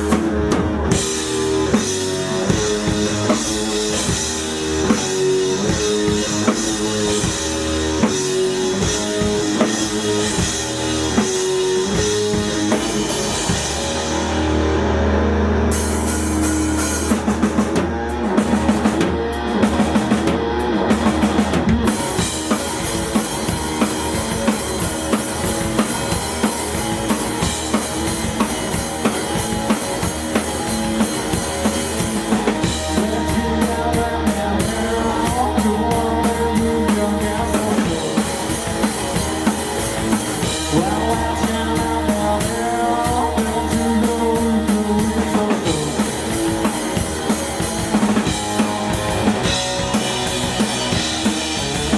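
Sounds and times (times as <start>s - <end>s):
rock band playing: 0.0s - 51.9s.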